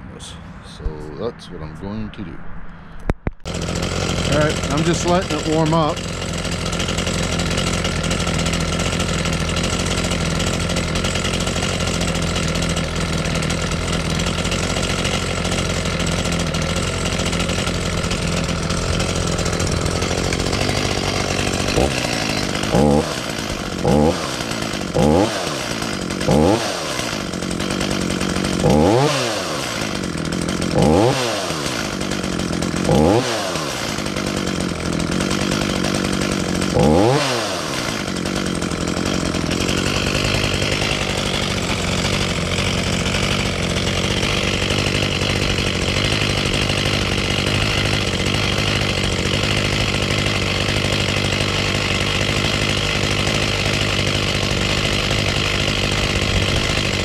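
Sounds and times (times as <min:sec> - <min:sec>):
chainsaw revving and idling: 0:03.4 - 0:57.0.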